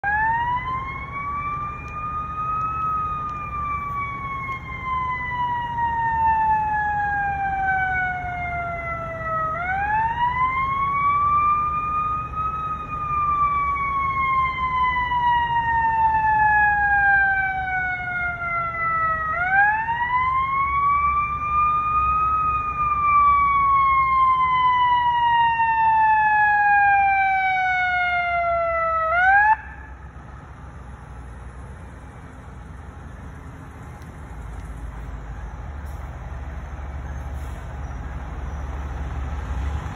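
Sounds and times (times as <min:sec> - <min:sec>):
fire truck siren wailing: 0:00.0 - 0:39.9.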